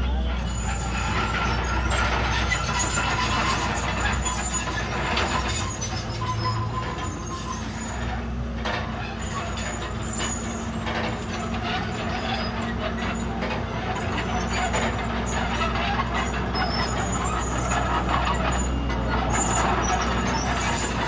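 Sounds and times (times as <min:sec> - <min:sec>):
bulldozer diesel engine: 0:00.0 - 0:21.0.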